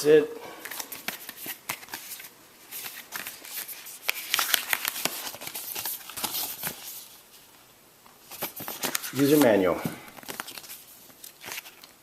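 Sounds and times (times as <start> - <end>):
paper and packaging rustling: 0.6 - 7.5, 8.1 - 12.0.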